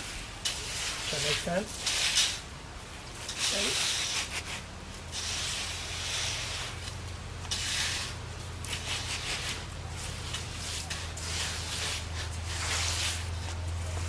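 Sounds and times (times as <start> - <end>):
board scraping wet concrete: 0.0 - 14.0.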